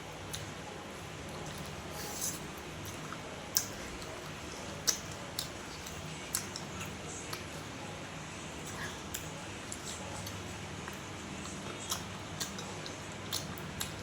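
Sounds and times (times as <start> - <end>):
person chewing food: 0.1 - 7.8, 8.6 - 14.0.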